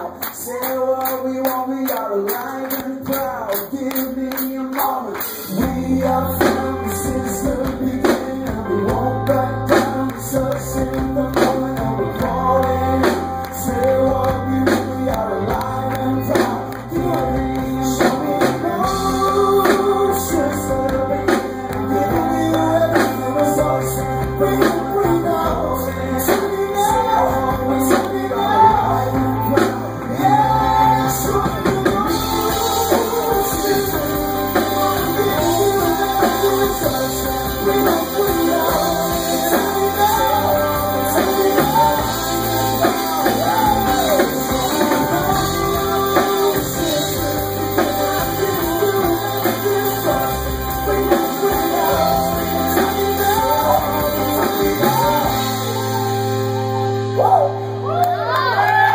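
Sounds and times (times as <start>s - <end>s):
drum kit beat: 0.0s - 57.0s
man singing: 0.0s - 57.6s
electric guitars: 0.0s - 58.9s
electric bass: 5.5s - 58.9s.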